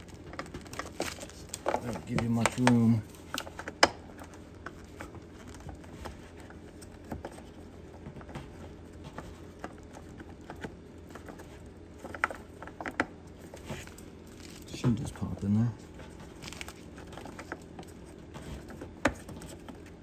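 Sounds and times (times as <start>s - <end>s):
hands handling plastic wrapping: 0.0s - 7.1s, 10.1s - 19.9s.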